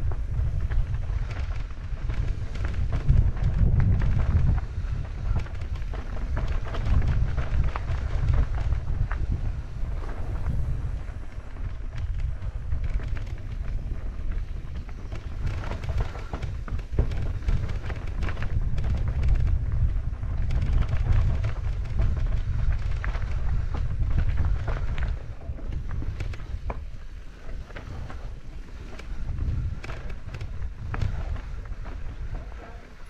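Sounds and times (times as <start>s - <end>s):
bike clicks and rattles: 0.0s - 33.0s
wind buffeting microphone: 0.0s - 33.0s.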